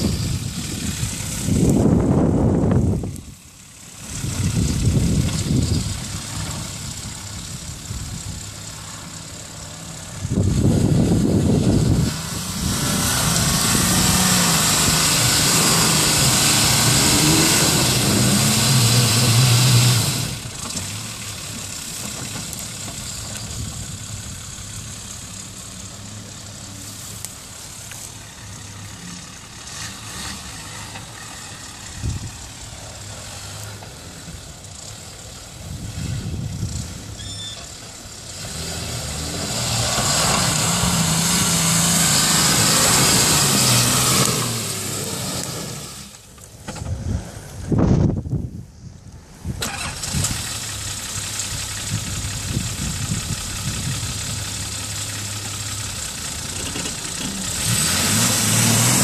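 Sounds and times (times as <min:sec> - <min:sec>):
diesel truck engine labouring: 0:00.0 - 0:48.3, 0:49.4 - 0:59.0.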